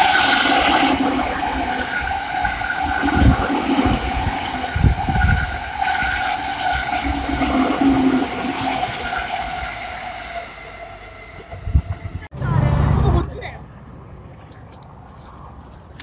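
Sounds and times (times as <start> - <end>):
electric train passing: 0.0 - 14.3.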